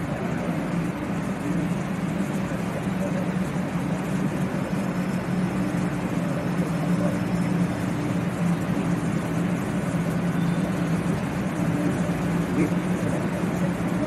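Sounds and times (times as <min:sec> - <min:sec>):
train humming at platform: 0:00.0 - 0:14.0.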